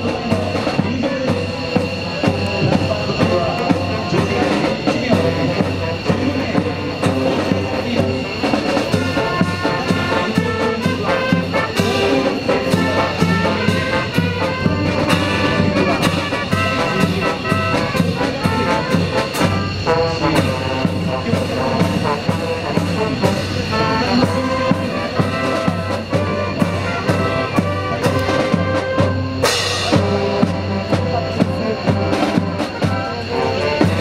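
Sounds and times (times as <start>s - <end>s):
marching band brass: 0.0s - 34.0s.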